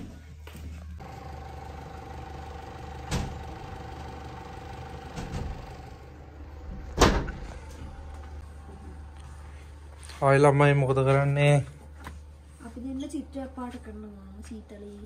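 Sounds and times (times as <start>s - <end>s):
mechanical hum with held tones: 0.0s - 15.0s.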